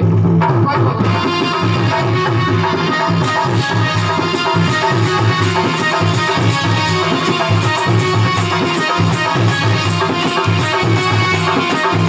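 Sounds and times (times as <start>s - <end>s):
drums: 0.0s - 12.0s
electric keyboard melody: 1.0s - 12.0s.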